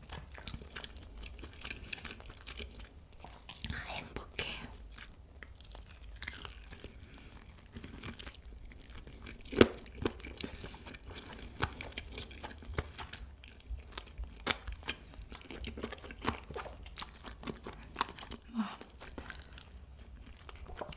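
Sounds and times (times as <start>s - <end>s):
chewing crispy fried chicken: 0.0s - 20.9s.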